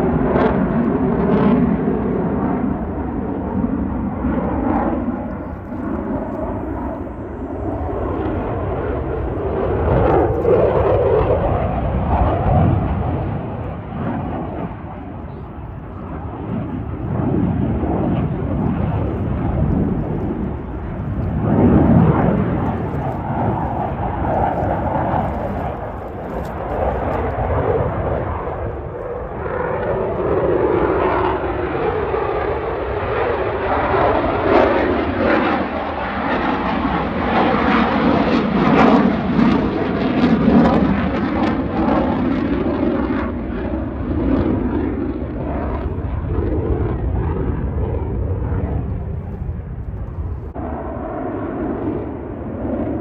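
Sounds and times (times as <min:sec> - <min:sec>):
airplane flying past: 0:00.0 - 0:53.0.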